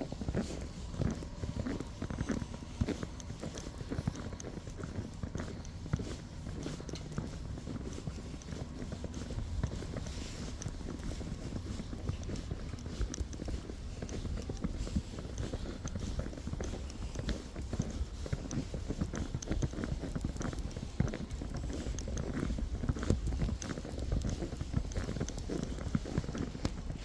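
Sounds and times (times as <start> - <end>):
footsteps crunching in snow: 0.0 - 27.0.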